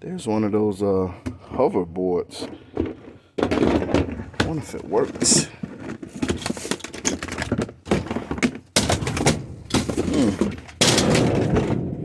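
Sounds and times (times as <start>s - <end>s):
hard objects clicking and knocking: 2.3s - 12.0s.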